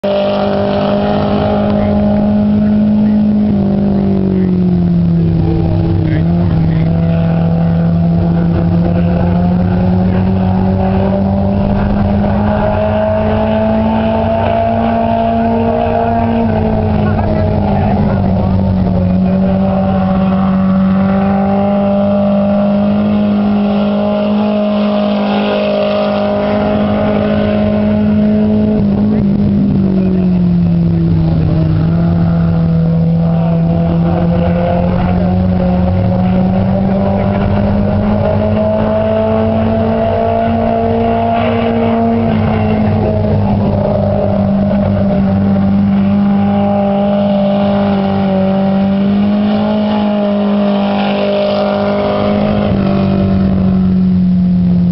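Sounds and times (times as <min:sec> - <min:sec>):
race car engine running hard: 0:00.0 - 0:54.9.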